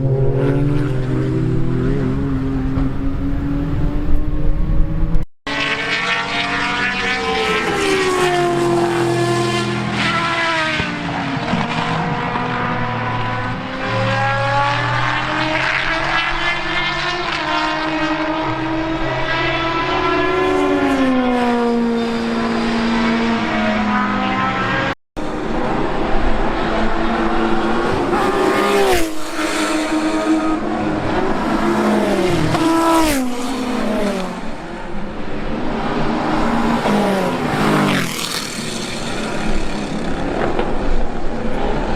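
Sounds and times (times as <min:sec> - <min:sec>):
racing car engines: 0:00.0 - 0:41.9.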